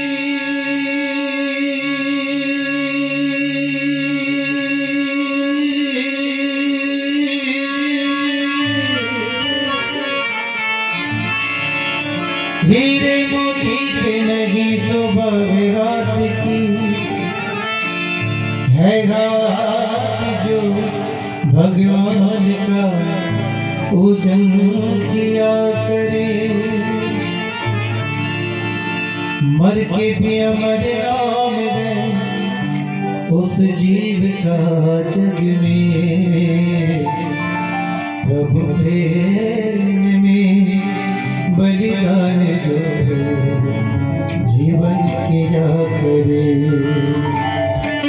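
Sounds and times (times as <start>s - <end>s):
harmonium: 0.0s - 48.0s
keyboard: 0.0s - 48.0s
man singing devotional song: 0.0s - 48.0s
tabla: 0.0s - 48.0s.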